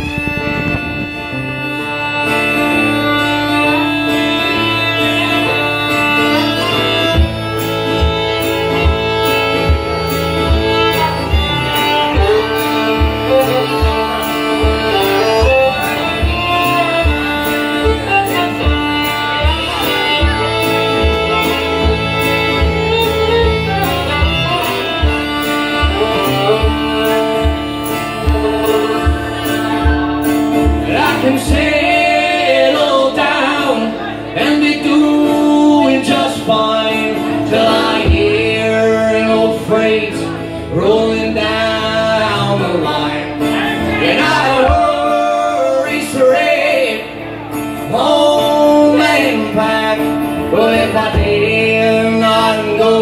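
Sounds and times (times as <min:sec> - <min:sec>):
acoustic guitar: 0:00.0 - 0:53.0
fiddle: 0:00.0 - 0:53.0.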